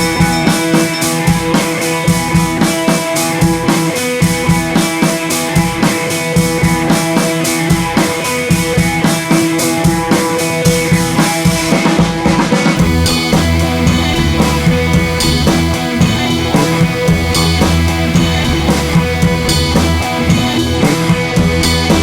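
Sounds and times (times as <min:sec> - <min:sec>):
rock music with drums and guitar: 0:00.0 - 0:22.0.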